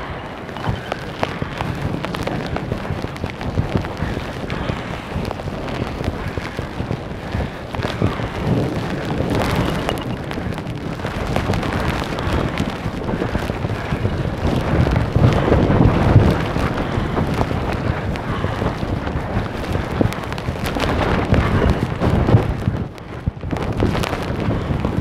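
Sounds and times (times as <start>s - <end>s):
heavy rain pouring: 0.0s - 25.0s
wind buffeting microphone: 0.0s - 25.0s.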